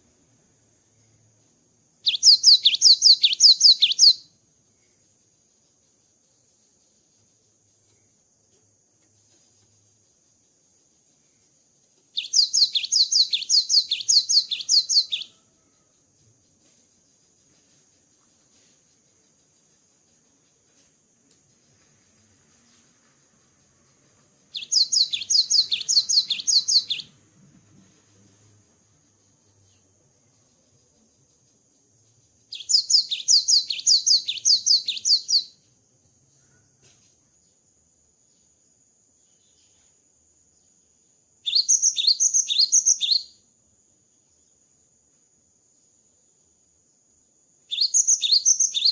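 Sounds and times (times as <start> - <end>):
faint high-pitched whine: 0.0 - 48.9.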